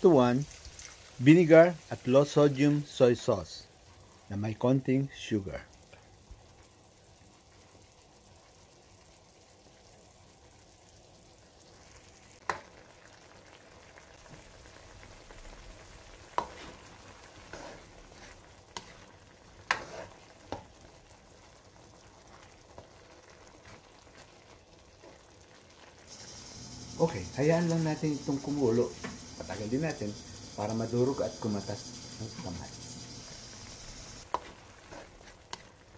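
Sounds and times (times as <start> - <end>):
liquid sizzling faintly in wok: 0.0 - 35.9.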